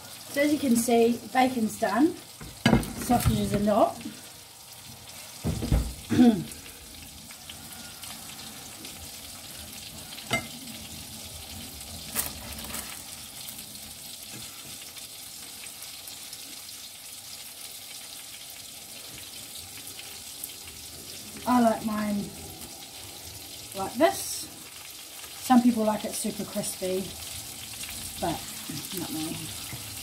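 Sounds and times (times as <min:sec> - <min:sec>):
mushrooms sizzling in a frying pan: 0:00.0 - 0:30.0.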